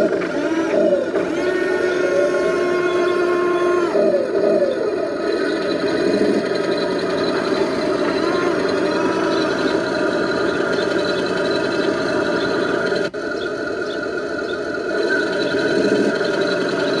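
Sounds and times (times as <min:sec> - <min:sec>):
simulated engine idle: 0:00.0 - 0:17.0.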